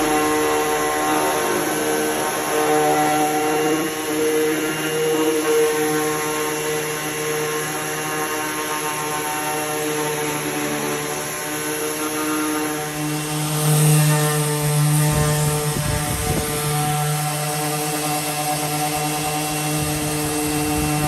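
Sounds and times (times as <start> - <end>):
power tool motor whining: 0.0 - 21.0.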